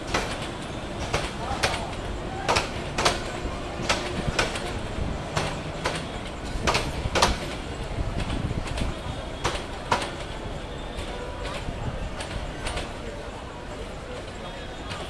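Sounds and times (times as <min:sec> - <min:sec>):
train running noise: 0:00.0 - 0:15.0
train wheels clattering over joints: 0:00.0 - 0:15.0.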